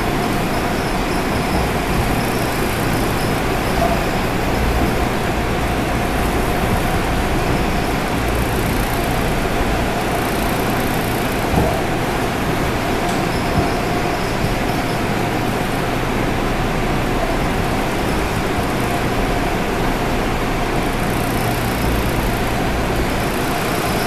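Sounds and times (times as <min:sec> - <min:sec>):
train rumbling through tunnel: 0:00.0 - 0:24.0.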